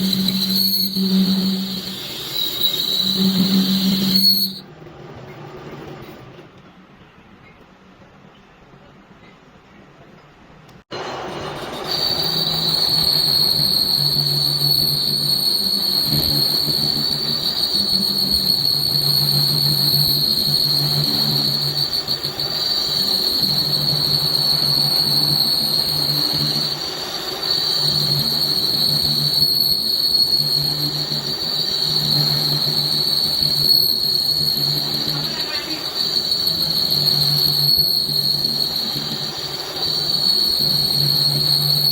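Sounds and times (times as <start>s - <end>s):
lathe cutting squeal: 0.0s - 4.7s, 11.0s - 41.9s.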